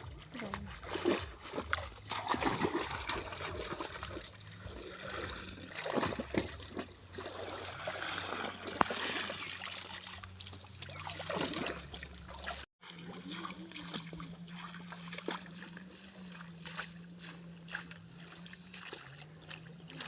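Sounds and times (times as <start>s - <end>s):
river water trickling and splashing: 0.0s - 20.0s.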